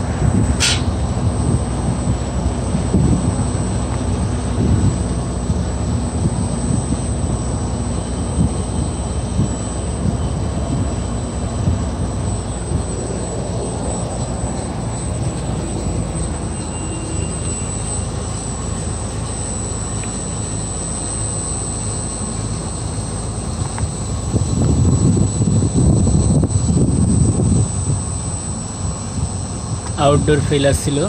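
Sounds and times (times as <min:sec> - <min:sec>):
air conditioning units droning: 0:00.0 - 0:31.0
high-pitched steady tone: 0:00.0 - 0:31.0.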